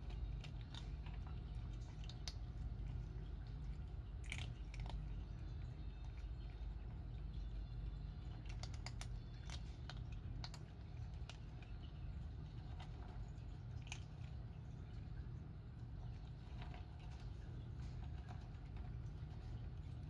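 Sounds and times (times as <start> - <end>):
cats crunching dry kibble: 0.0 - 20.0.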